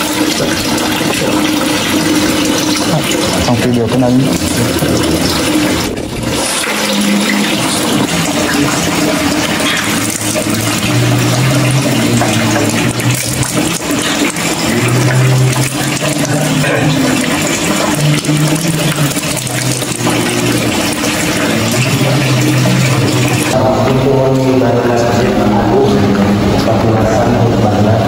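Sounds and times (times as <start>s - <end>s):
water pouring and splashing: 0.0s - 28.0s
water running into a pool: 0.0s - 28.0s.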